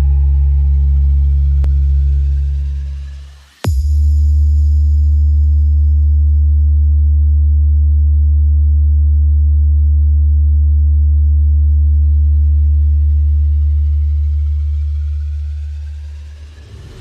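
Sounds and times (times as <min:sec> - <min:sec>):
deep bass sine tone: 0:00.0 - 0:17.0.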